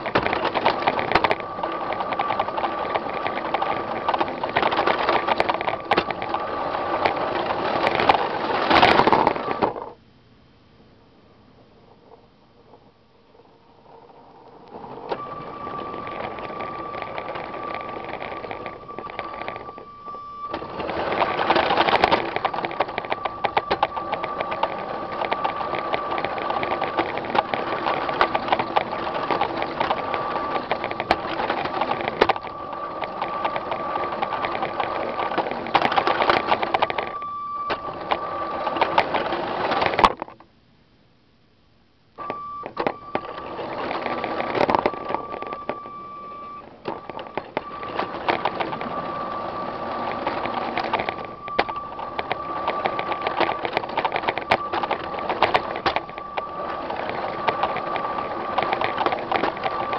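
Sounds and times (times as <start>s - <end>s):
toy train motor whine: 0.0s - 9.9s, 13.4s - 40.1s, 42.3s - 59.9s
wheels clicking over plastic track: 0.0s - 10.0s, 12.0s - 40.4s, 42.2s - 59.9s.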